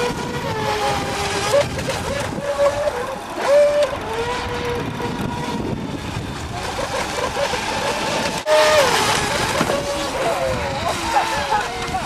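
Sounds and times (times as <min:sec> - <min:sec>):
model boat engine running: 0:00.0 - 0:12.0.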